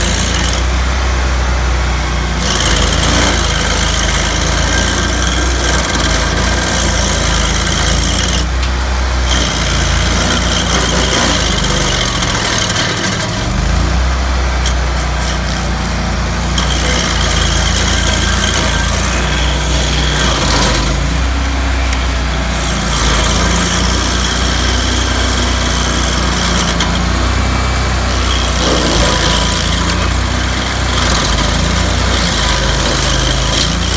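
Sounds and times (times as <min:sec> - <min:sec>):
cutter wheel grinding roots: 0:00.0 - 0:33.9
stump grinder engine running: 0:00.0 - 0:33.9.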